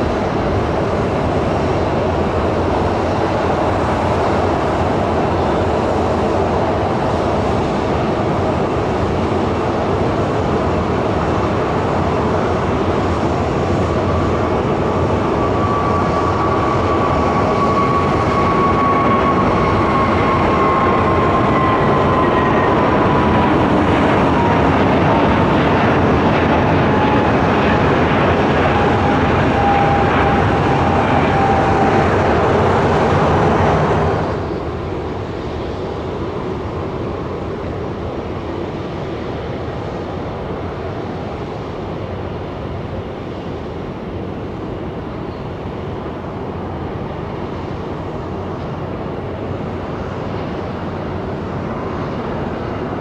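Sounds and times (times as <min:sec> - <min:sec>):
loud jet engines whining: 0:00.0 - 0:53.0
regional jet engine noise: 0:00.0 - 0:53.0.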